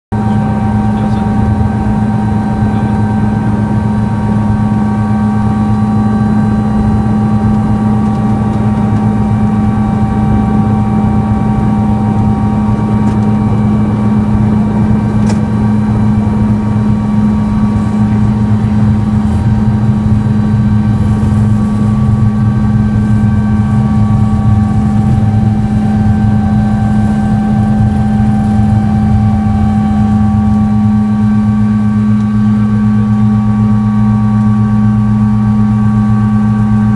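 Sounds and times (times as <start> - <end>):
helicopter low drone: 0.1 - 36.9
helicopter turbine whine: 0.1 - 36.9.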